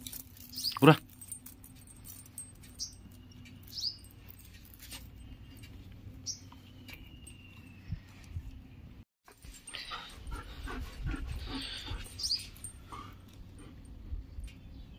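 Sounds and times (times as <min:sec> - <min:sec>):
metal chain leash clinking: 0:00.0 - 0:07.8, 0:09.3 - 0:14.9.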